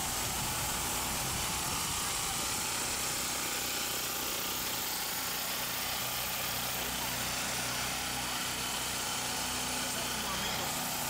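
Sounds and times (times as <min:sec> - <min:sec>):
continuous hiss: 0:00.0 - 0:11.0
mechanical hum: 0:00.0 - 0:11.0.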